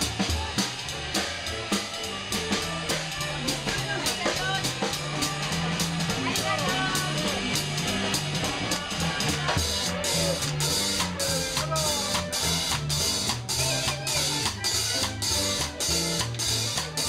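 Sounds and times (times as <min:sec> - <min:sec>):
drum kit beat: 0:00.0 - 0:17.0
jazz band playing: 0:00.0 - 0:17.0
stepping bass line: 0:00.0 - 0:17.0
wind instrument melody: 0:00.0 - 0:17.0.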